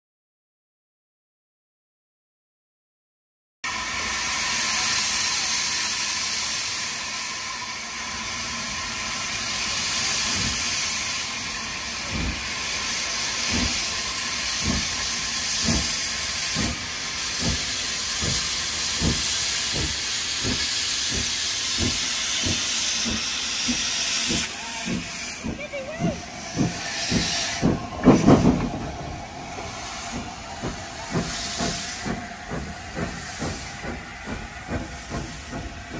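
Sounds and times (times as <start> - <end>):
steam hissing from cylinder cocks: 3.7 - 35.9
steam locomotive exhaust chuffs: 3.7 - 35.9.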